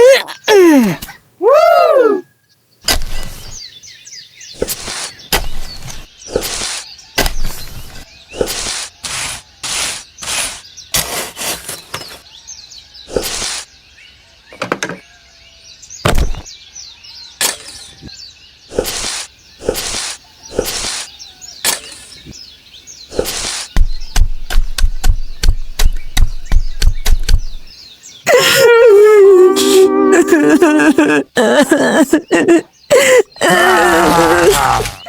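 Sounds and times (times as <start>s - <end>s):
birds chirping: 0.0s - 11.0s, 12.0s - 35.0s.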